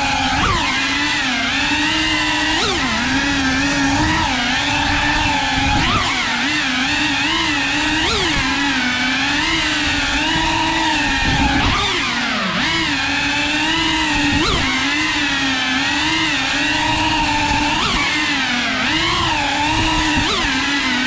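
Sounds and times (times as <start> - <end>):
drone motors buzzing: 0.0 - 21.0.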